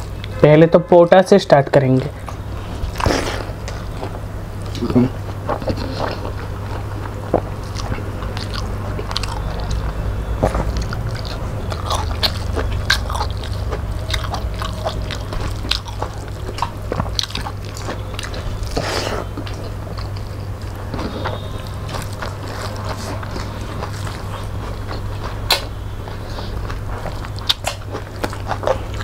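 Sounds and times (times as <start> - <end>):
people chewing and smacking: 1.8 - 29.0.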